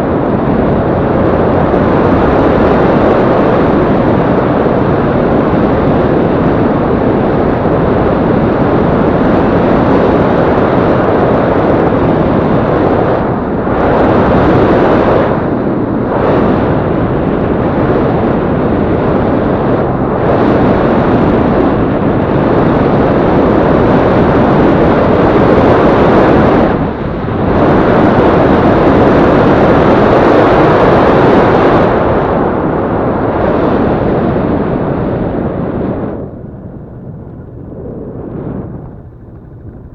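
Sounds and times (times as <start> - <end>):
wind rushing on microphone: 0.0 - 39.9
motorcycle engine: 0.2 - 30.0, 34.0 - 39.9.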